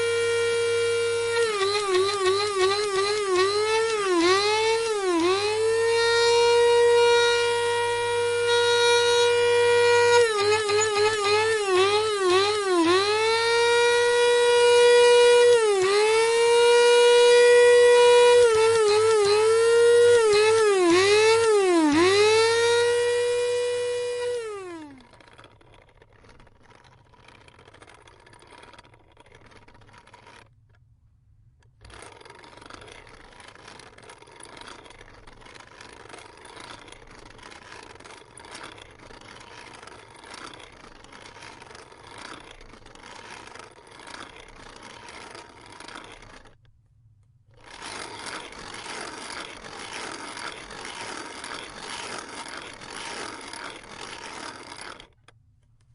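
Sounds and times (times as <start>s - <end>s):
coffee grinder motor whining: 0.0s - 30.5s, 31.8s - 46.6s, 47.5s - 55.4s
grinding and rustling: 0.0s - 30.8s, 31.6s - 46.7s, 47.5s - 55.9s.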